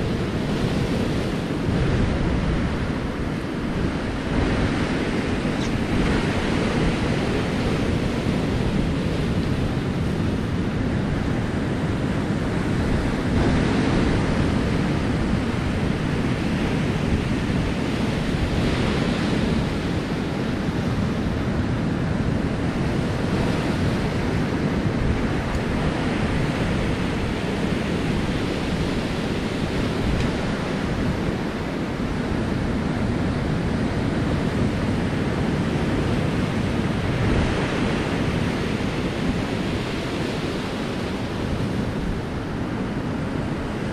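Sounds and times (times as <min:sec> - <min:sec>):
surf on rocky shore: 0:00.0 - 0:43.9
wind buffeting microphone: 0:00.0 - 0:43.9.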